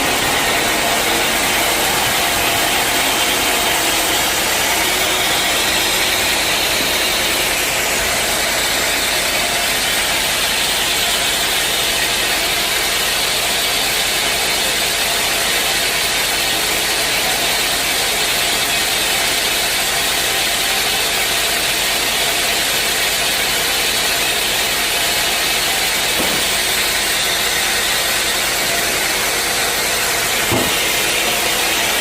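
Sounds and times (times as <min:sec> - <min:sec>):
sawmill machinery hissing drone: 0:00.0 - 0:21.4, 0:22.2 - 0:32.0.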